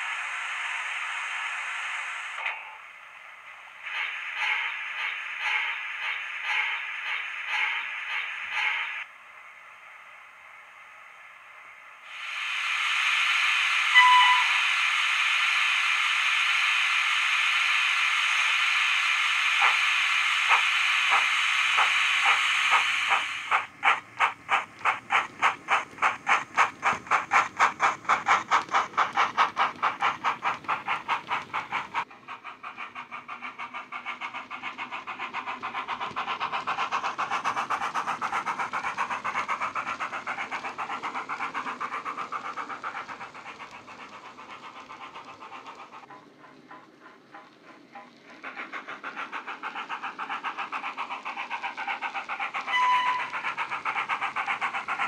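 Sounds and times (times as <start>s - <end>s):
steam hiss: 0.0s - 55.0s
steam locomotive chuffing: 0.0s - 55.0s.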